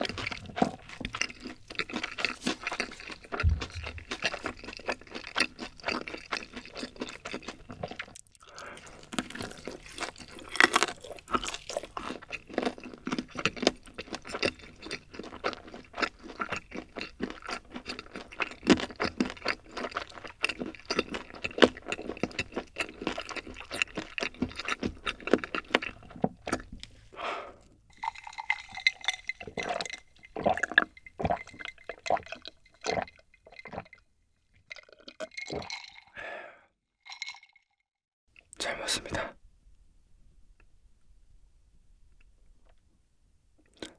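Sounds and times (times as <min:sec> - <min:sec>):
gulping a drink: 0:00.0 - 0:34.0, 0:34.6 - 0:36.6
person chewing food: 0:00.0 - 0:36.2, 0:43.6 - 0:43.9.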